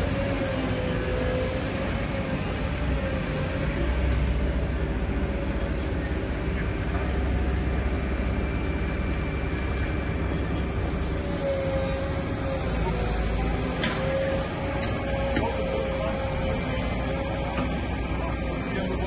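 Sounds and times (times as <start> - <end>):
heavy machinery rumble: 0.0 - 19.0.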